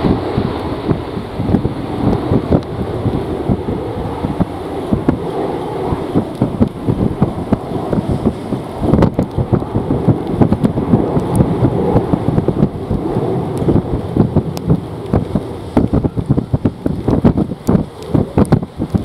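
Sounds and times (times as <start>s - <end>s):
heavy rain: 0.0s - 19.0s
wind buffeting microphone: 0.0s - 19.0s.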